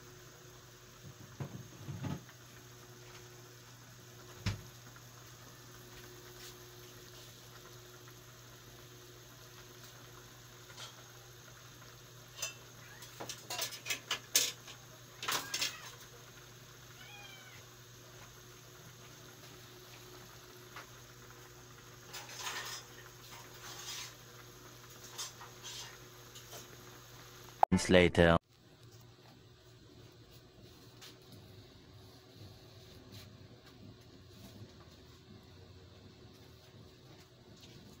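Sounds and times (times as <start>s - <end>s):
pan simmering on burner: 0.0s - 27.6s, 28.5s - 38.0s.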